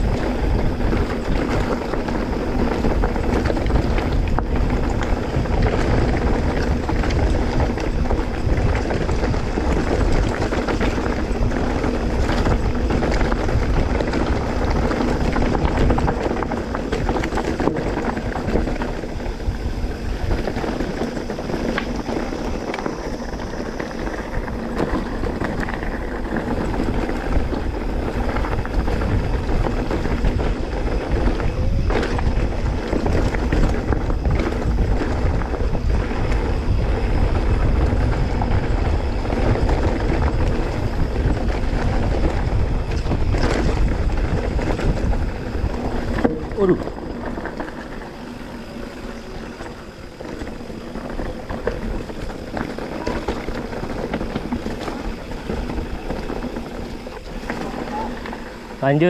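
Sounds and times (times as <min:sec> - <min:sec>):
bike knocks and rattles: 0:00.0 - 0:59.0
wind rushing over microphone: 0:00.0 - 0:59.0.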